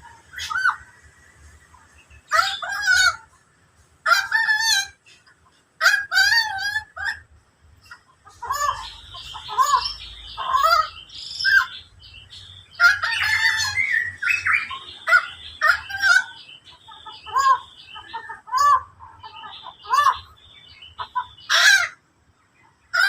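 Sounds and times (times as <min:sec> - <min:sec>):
faint bird chirping: 0:00.0 - 0:23.0
loud arching bird calls: 0:00.0 - 0:23.0.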